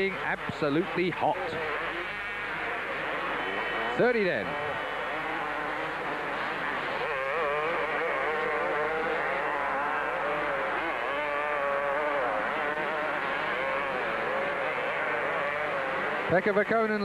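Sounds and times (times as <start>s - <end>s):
motocross bikes racing: 0.0s - 17.0s.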